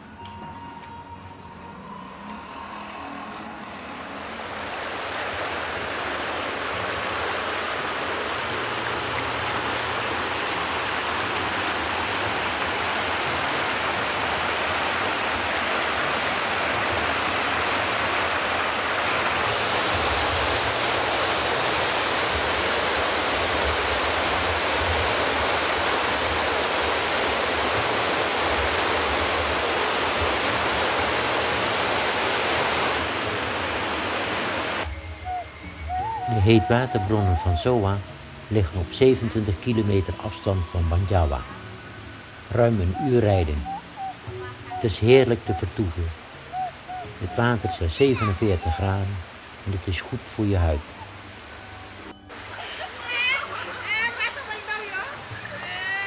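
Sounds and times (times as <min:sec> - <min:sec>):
stream rushing over rocks: 0:03.0 - 0:56.0.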